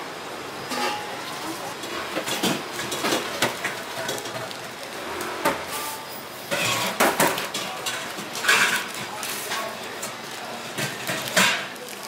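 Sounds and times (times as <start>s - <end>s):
baking paper rustling and crinkling: 1.2s - 12.0s.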